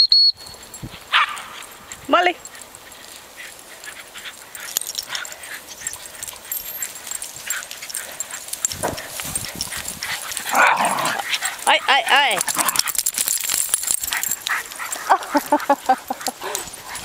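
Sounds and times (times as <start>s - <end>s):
clicks and rustles: 0.6s - 17.0s
dogs moving about: 0.8s - 17.0s.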